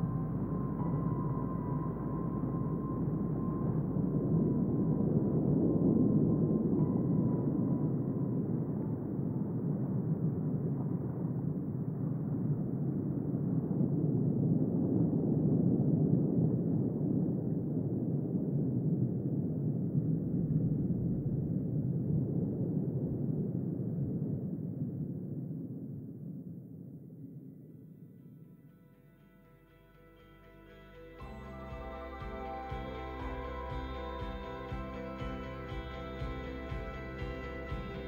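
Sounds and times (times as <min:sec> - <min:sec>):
low underwater rumble: 0:00.0 - 0:26.5, 0:31.2 - 0:38.0.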